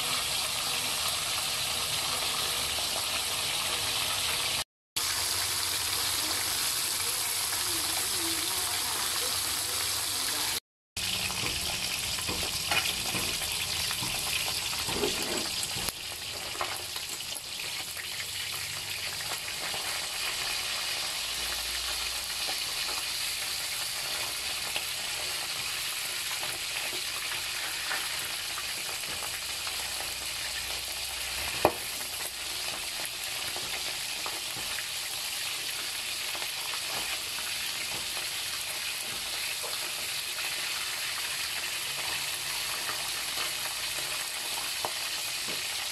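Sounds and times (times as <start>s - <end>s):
fish sizzling in hot oil: 0.0s - 45.9s.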